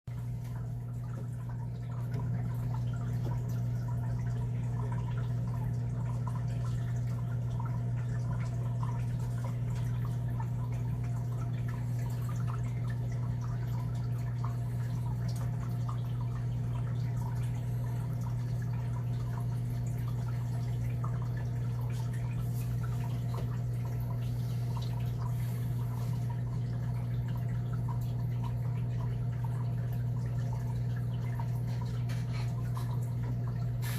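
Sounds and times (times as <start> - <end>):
steady low hum: 0.1 - 33.9.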